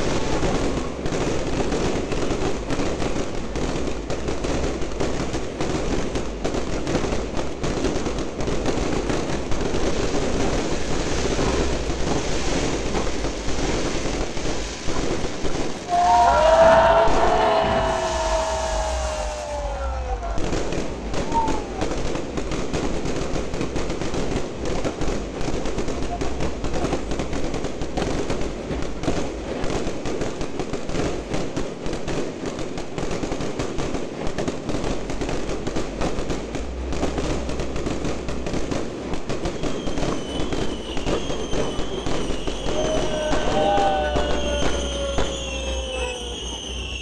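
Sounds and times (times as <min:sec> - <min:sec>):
fireworks bursting and crackling: 0:00.0 - 0:47.0
whistling fireworks: 0:00.0 - 0:47.0.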